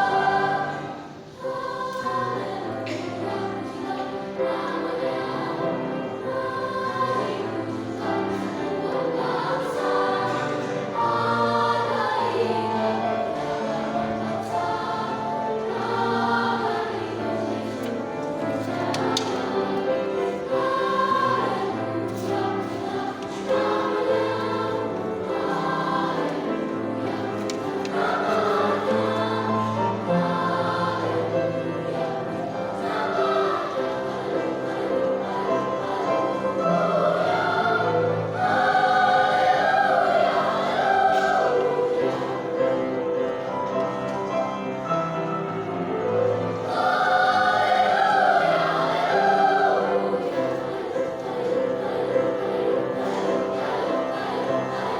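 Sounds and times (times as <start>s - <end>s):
children's choir singing: 0.0s - 54.9s.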